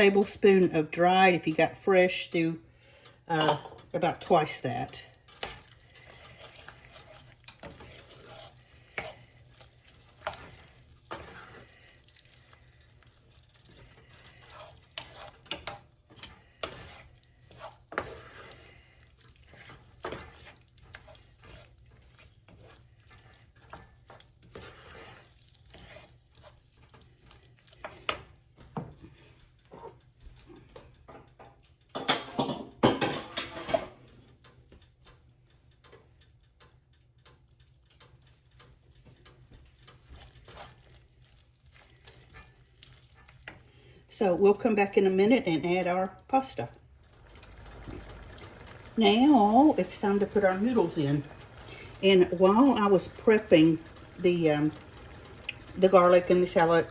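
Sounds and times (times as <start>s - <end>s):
spoon scraping a skillet: 0.0s - 36.2s, 37.3s - 56.9s.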